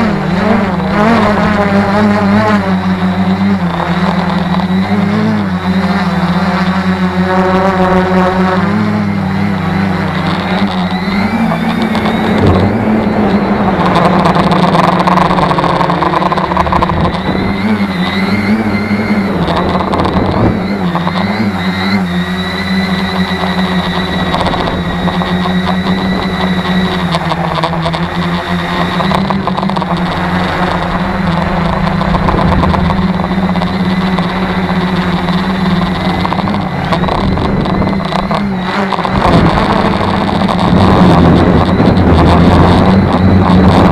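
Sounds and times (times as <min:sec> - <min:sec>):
drone propellers droning: 0:00.0 - 0:43.9
wind noise: 0:07.5 - 0:43.9.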